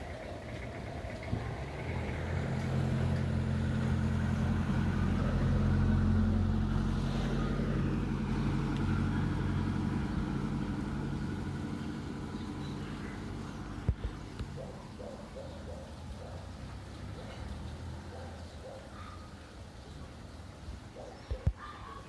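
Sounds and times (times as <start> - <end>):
vehicle engine passing: 0.0 - 19.2.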